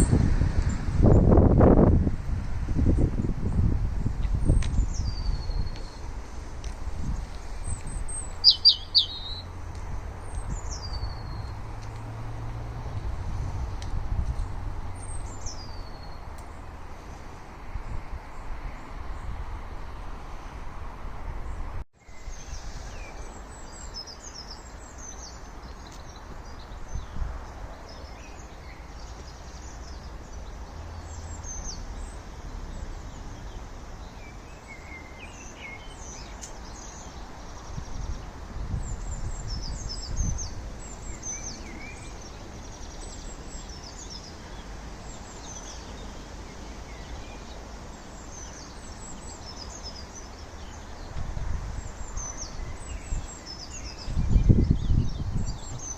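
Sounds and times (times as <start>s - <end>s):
outdoor background noise: 0.0s - 55.9s
songbirds singing and chirping: 3.0s - 12.1s, 14.9s - 17.3s, 21.5s - 55.9s.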